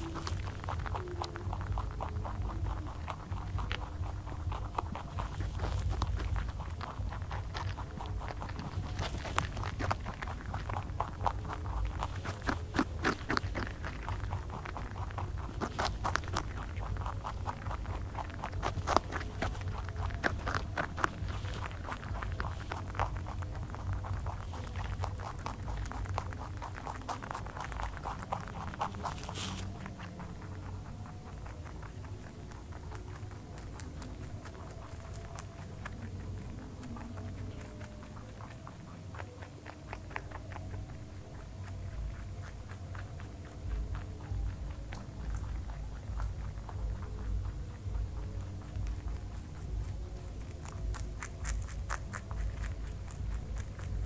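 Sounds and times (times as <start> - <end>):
low hum: 0.0 - 54.0
rabbits chewing crunchy vegetables: 0.0 - 54.0.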